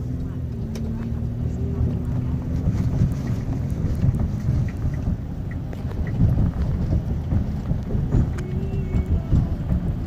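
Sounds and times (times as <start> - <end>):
car driving in rain rumble: 0.0 - 10.0
road and wind noise: 0.0 - 10.0.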